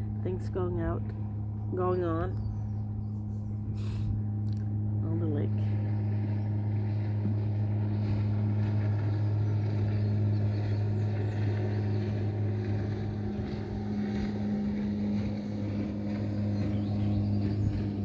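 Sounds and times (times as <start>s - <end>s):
motorboat engine humming: 0.0s - 18.0s.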